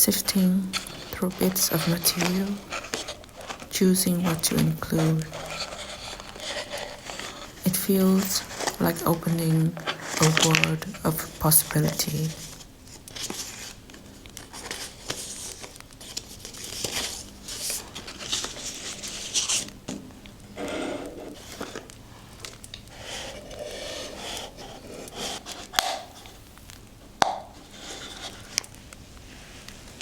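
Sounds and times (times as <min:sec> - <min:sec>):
paper rustling and crinkling: 0:00.0 - 0:26.9, 0:27.6 - 0:30.0.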